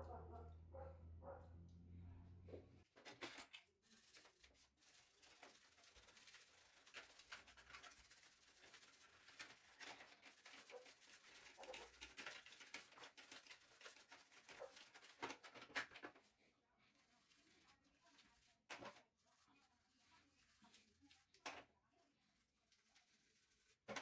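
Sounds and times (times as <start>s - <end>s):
brush scrubbing wet parts: 3.8s - 15.6s, 16.2s - 24.0s.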